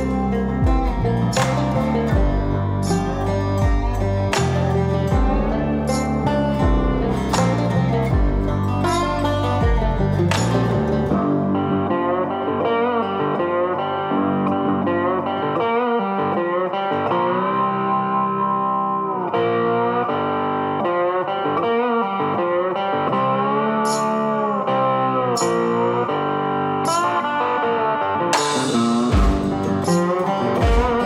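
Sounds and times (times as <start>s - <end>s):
guitar music with bending notes: 0.0s - 31.0s.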